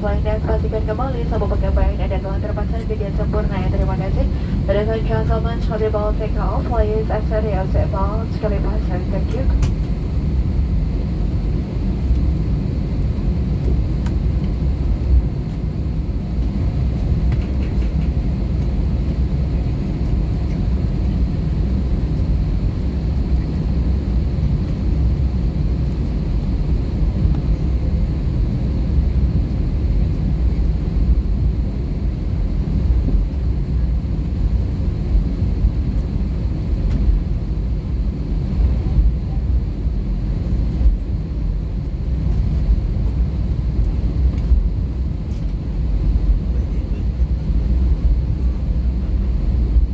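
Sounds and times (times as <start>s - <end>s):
airplane cabin engine rumble: 0.0s - 49.9s.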